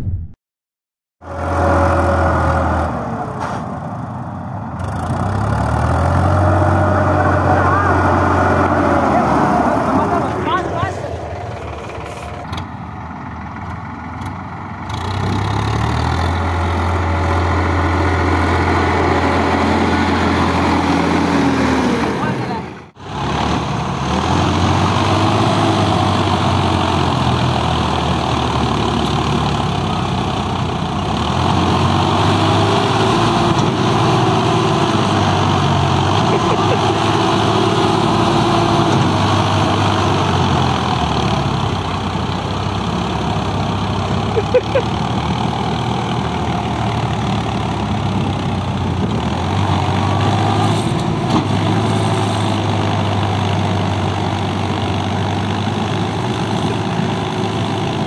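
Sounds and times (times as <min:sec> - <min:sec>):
tractor diesel engine running: 0:01.3 - 0:58.0.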